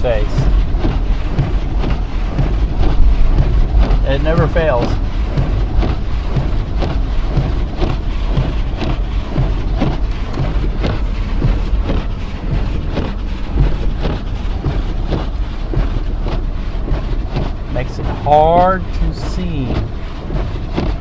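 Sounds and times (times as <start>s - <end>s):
car engine and tyres rumbling: 0.0s - 21.0s
ticks and knocks: 0.0s - 21.0s.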